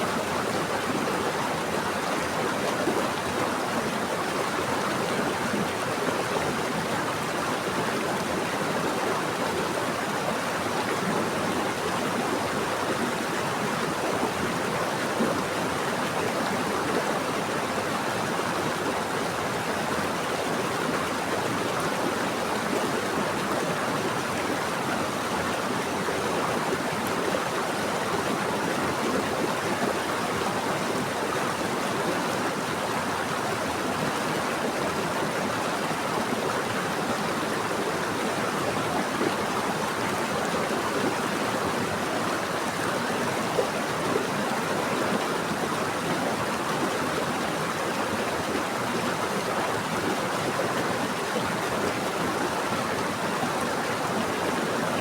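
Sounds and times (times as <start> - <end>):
water flowing over rocks: 0.1 - 55.0.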